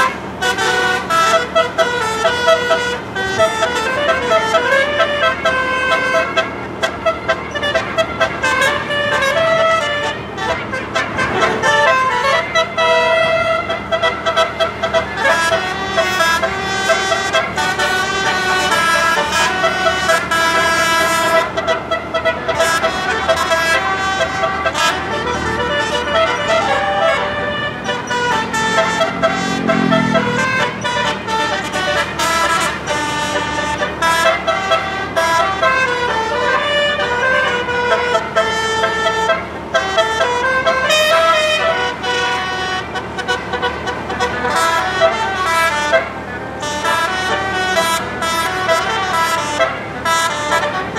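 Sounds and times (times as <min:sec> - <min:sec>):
multi-tone bus horns playing melodies: 0:00.0 - 0:50.9.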